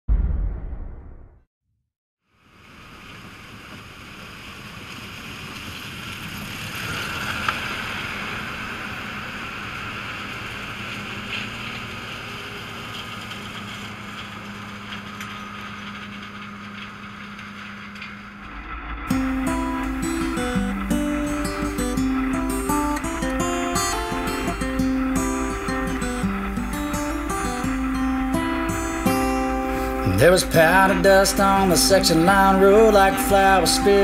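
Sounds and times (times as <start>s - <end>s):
harvest machinery humming: 2.9s - 34.0s.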